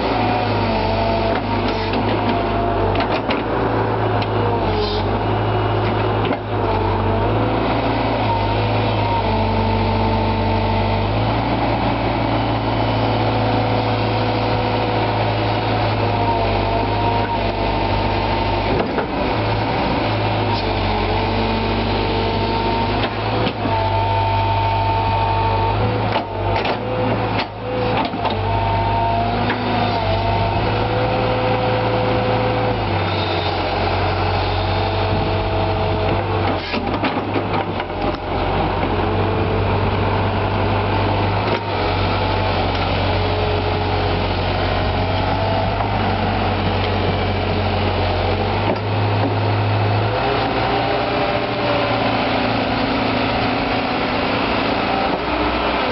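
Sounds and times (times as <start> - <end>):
excavator diesel engine humming: 0.0 - 55.9.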